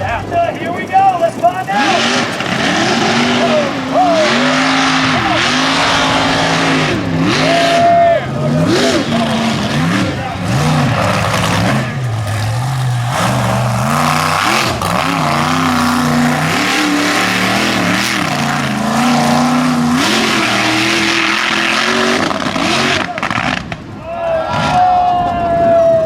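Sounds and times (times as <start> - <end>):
truck engine revving: 0.0 - 24.8.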